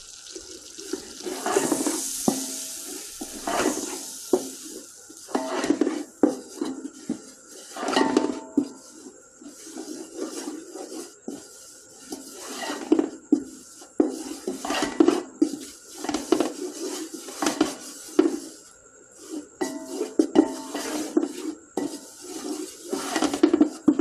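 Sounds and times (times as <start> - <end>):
spoon scraping a cooking pot: 0.8 - 18.5, 19.2 - 23.9.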